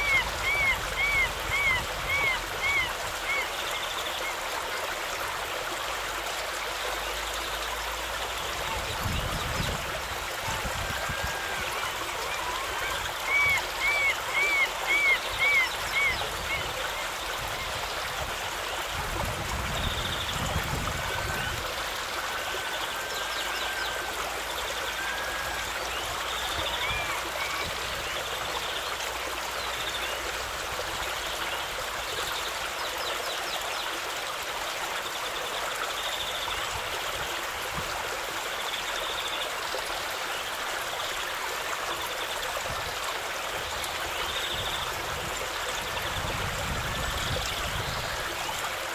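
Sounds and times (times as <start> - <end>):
river water rushing over rocks: 0.0 - 48.9.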